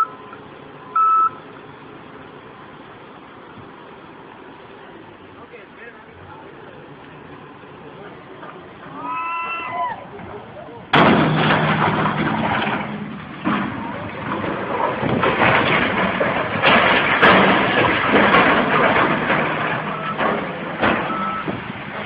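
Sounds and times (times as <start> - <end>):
dense mechanical noise: 0.0 - 22.0
heavy machinery engine hum: 0.0 - 22.0.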